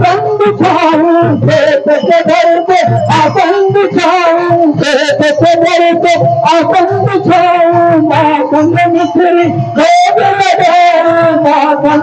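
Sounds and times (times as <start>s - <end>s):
man singing devotional song: 0.0s - 12.0s
repeated low beats: 0.0s - 12.0s.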